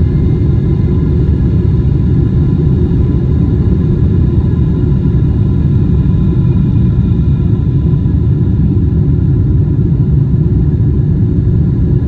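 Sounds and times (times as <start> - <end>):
engine whine: 0.0 - 12.0
jetliner cabin rumble: 0.0 - 12.0.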